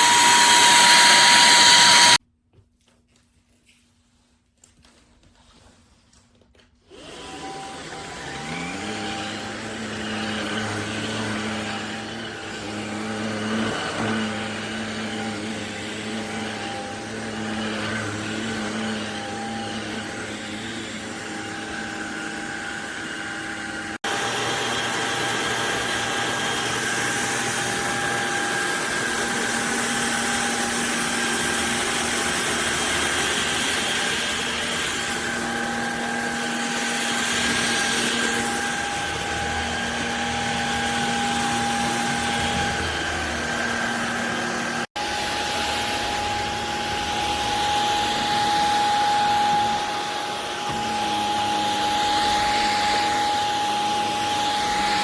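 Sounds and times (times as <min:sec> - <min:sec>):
stick vacuum motor whine: 0:00.0 - 0:02.2, 0:06.9 - 0:55.0.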